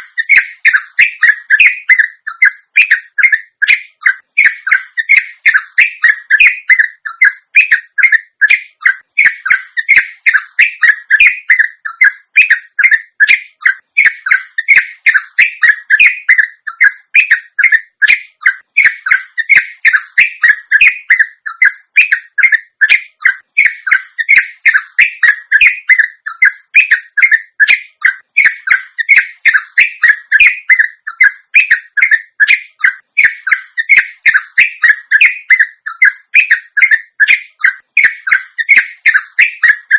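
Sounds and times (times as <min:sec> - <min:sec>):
bird singing warbling notes: 0:00.0 - 0:39.9.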